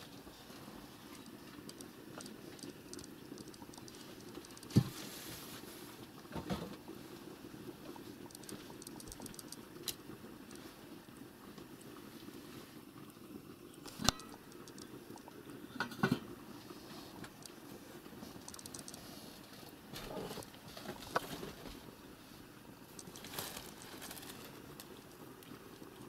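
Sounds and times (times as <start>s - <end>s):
cat licking and grooming: 0.0s - 15.5s, 16.5s - 21.9s, 22.8s - 26.0s.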